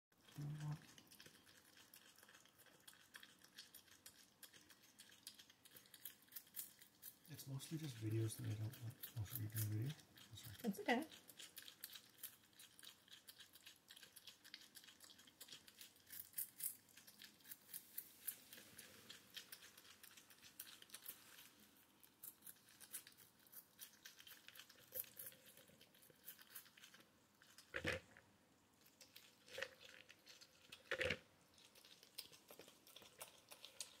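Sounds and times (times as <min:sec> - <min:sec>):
porcupine chewing seeds: 0:00.1 - 0:34.0.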